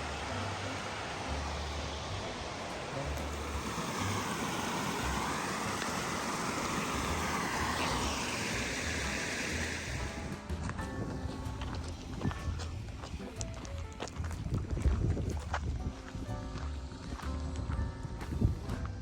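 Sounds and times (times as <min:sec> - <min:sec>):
wind blowing across microphone: 0:00.0 - 0:19.0.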